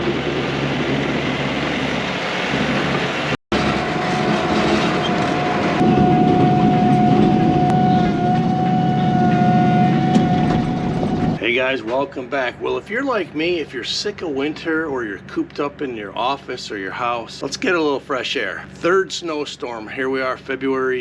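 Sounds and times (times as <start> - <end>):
steady high whine: 0.0 - 20.6
tractor diesel engine running: 0.0 - 20.6.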